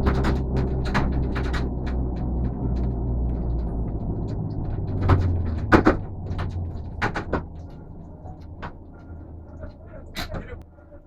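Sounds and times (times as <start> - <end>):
sharp clicks and knocks: 0.0 - 10.6
race car engine droning: 0.0 - 10.9.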